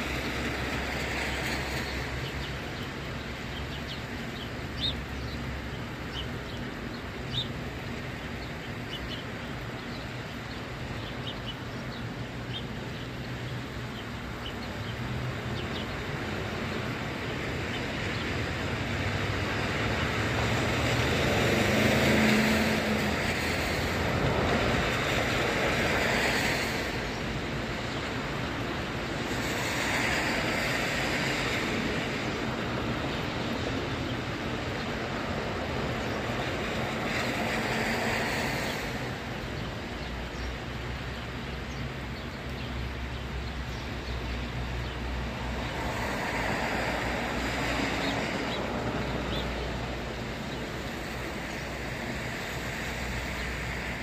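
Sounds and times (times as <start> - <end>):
tyres hissing on wet road: 0.0 - 54.0.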